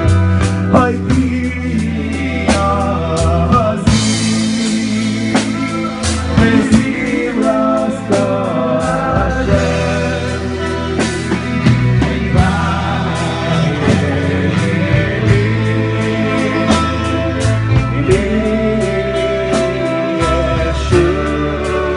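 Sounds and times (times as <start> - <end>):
drum kit hits: 0.0 - 21.9
low bass notes: 0.0 - 21.9
person singing: 0.0 - 21.9.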